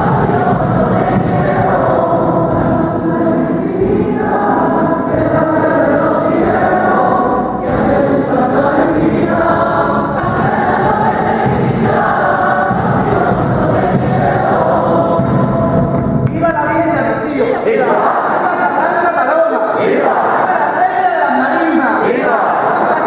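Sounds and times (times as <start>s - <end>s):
many voices singing a hymn: 0.0s - 23.0s.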